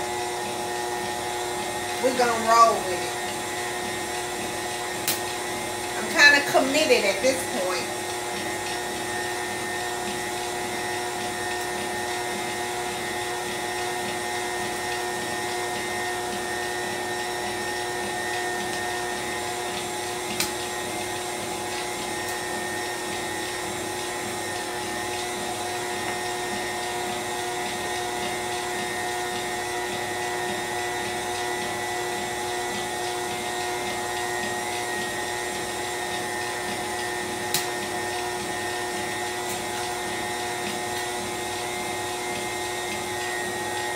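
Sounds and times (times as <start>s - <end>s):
stand mixer motor whining: 0.0s - 43.9s.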